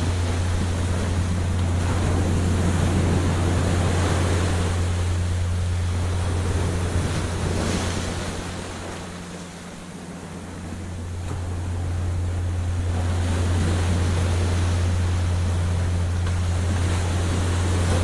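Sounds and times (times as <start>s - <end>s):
low rumble: 0.0s - 18.0s
ocean surf on sandy beach: 0.0s - 18.0s.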